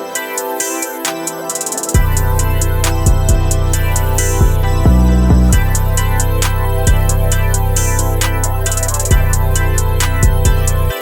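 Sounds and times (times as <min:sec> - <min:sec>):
instrumental music with steady beat: 0:00.0 - 0:11.0
strong bass line: 0:02.0 - 0:11.0.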